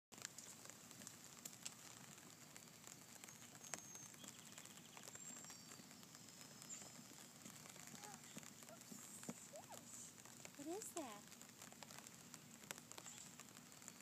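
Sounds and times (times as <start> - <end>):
light rain pattering: 0.1 - 14.0.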